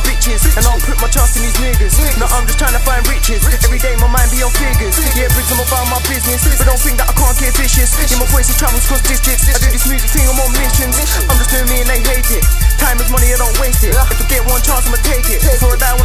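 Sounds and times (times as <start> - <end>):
deep bass notes: 0.0 - 16.0
hi-hat ticks: 0.0 - 16.0
man rapping over a beat: 0.0 - 16.0.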